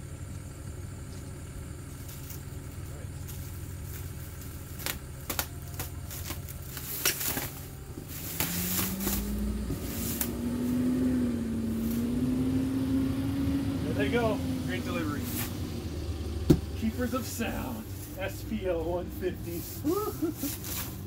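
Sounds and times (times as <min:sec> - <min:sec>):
truck engine pulling away: 0:00.0 - 0:21.0.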